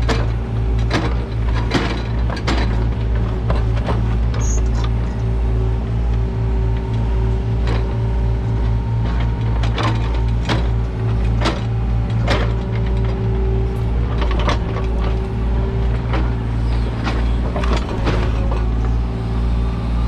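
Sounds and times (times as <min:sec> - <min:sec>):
machine clanks and knocks: 0:00.0 - 0:05.2, 0:06.7 - 0:19.1
excavator diesel engine running: 0:00.0 - 0:20.0.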